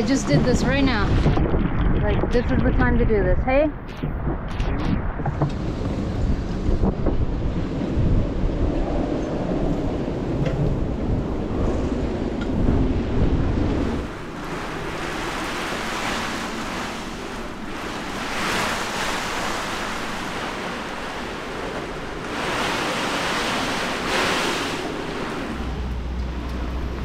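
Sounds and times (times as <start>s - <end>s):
hurricane wind and driving rain: 0.0s - 27.0s
low rumble: 0.0s - 27.0s.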